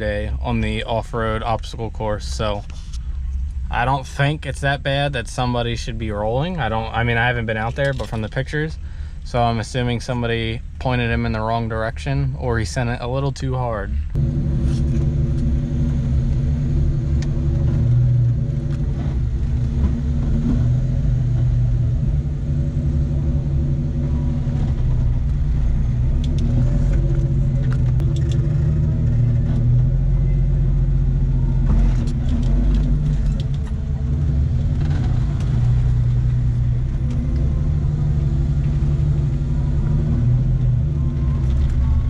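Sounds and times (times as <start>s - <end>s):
engine rumbling inside cab: 0.0s - 42.0s.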